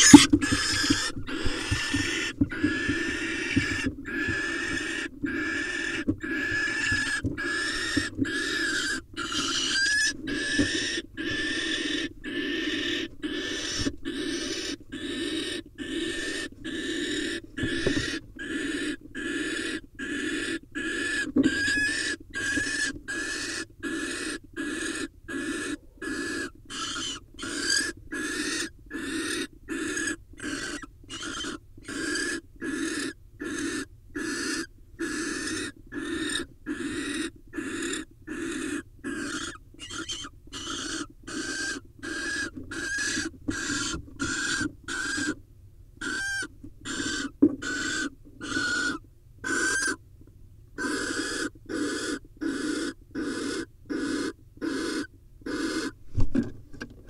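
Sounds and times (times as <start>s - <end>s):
barn owl hissing call: 0.0s - 45.4s, 46.0s - 50.0s, 50.8s - 56.0s.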